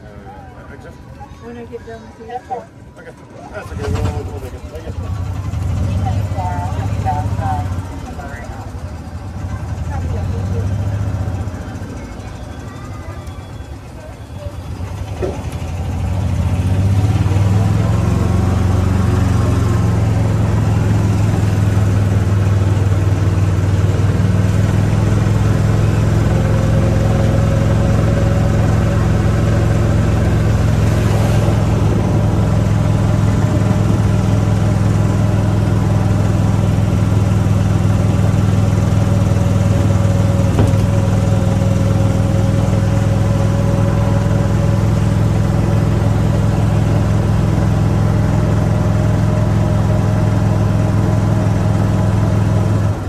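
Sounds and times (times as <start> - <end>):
vehicle engine running: 3.0 - 53.0.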